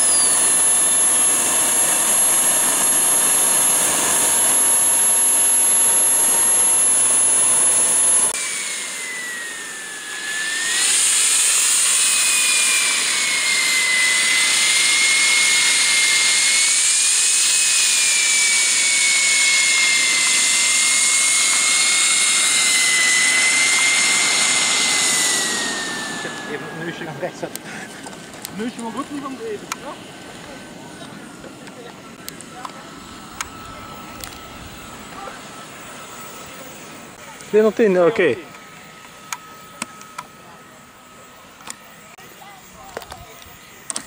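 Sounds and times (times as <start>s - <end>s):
model jet engine whining: 0.0s - 44.0s.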